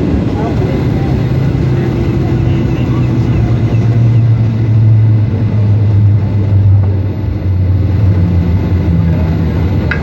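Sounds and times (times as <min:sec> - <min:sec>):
airplane cabin rumble while taxiing: 0:00.0 - 0:10.0.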